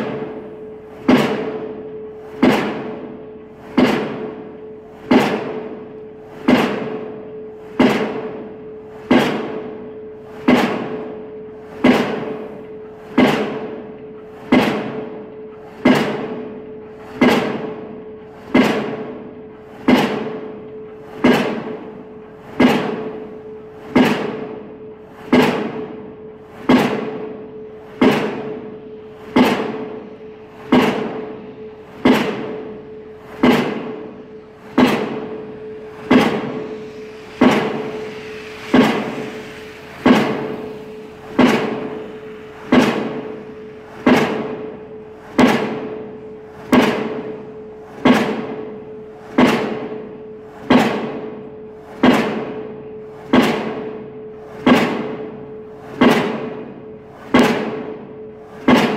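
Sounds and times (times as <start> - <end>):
pile hammer blows: 0.0 - 58.9.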